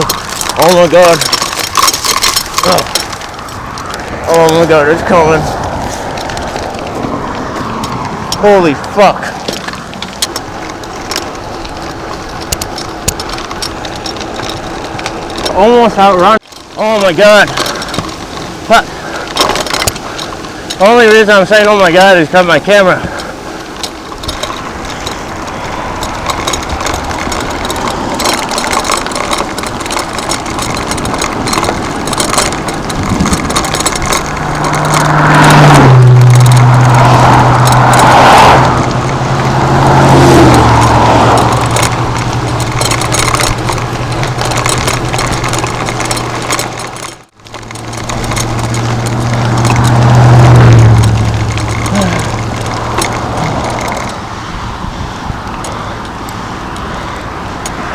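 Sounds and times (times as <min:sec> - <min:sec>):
vehicle engine humming: 0:00.0 - 0:57.9
wind and road noise: 0:00.0 - 0:57.9.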